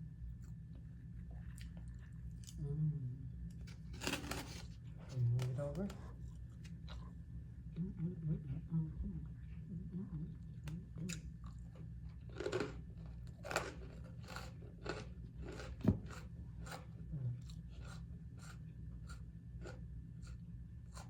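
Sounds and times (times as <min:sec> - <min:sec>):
steady low hum: 0:00.0 - 0:21.0
chewing crisp vegetables: 0:00.2 - 0:02.8, 0:03.4 - 0:07.8, 0:09.7 - 0:21.0.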